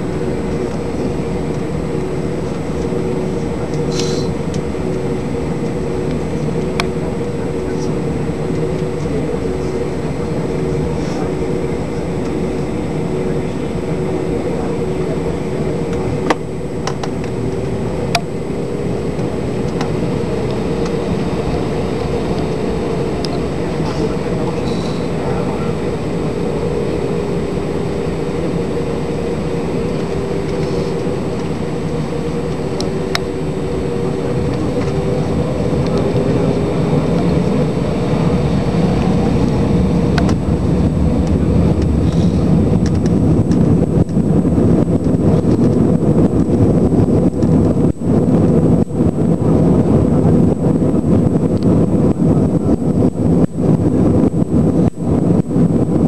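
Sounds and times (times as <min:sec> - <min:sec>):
aircraft cabin engine and airflow noise: 0:00.0 - 0:56.0
steady hum: 0:00.0 - 0:56.0.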